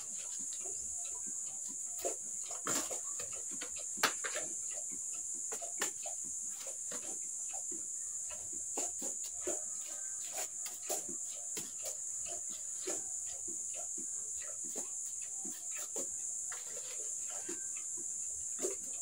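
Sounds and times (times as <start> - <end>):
farm animal calls: 0.0 - 19.0.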